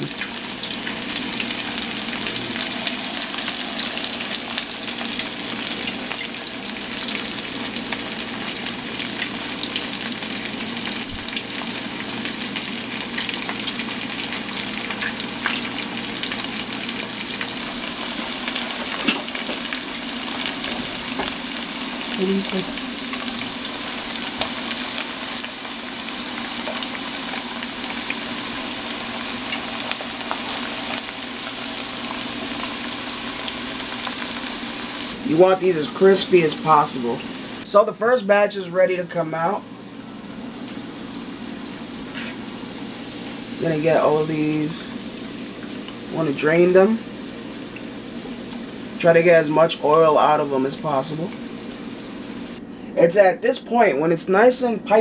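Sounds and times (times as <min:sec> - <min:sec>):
plantain frying in hot oil: 0:00.0 - 0:52.6.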